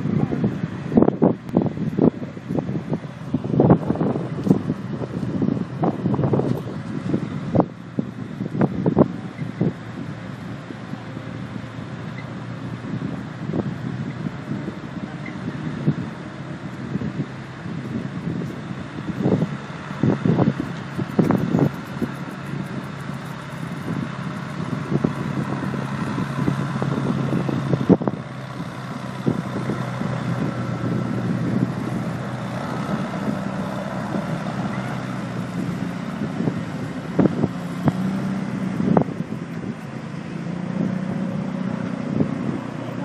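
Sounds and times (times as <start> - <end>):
diesel engine running: 0.0 - 43.0
wind buffeting microphone: 0.0 - 43.0.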